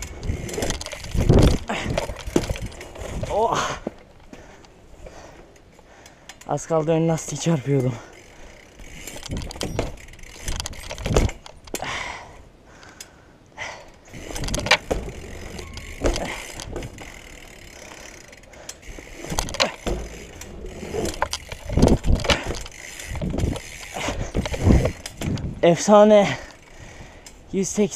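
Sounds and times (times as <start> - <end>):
bike tyres rumbling on paving: 0.0 - 6.0, 7.2 - 12.3, 13.6 - 27.2
bike clicks and rattles: 0.0 - 27.9.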